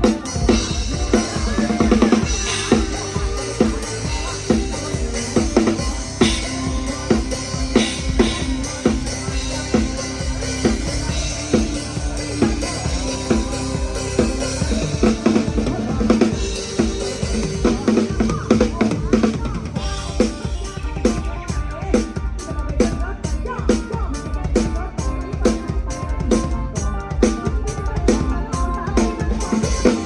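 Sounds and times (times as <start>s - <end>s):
drum kit beat: 0.0s - 30.0s
live band playing: 0.0s - 30.0s.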